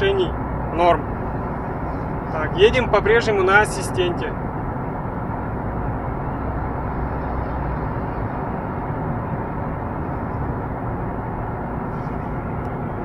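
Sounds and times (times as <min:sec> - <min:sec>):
in-cabin car driving rumble: 0:00.0 - 0:13.0.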